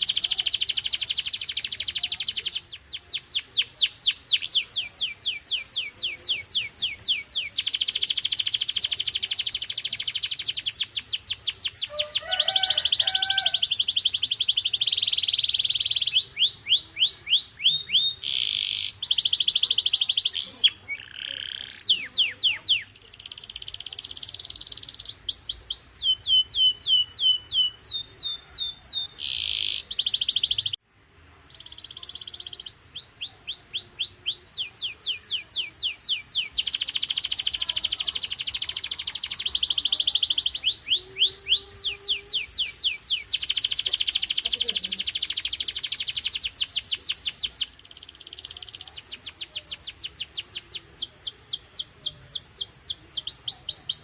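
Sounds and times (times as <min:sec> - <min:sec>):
canary singing: 0:00.0 - 0:30.8, 0:31.5 - 0:54.0.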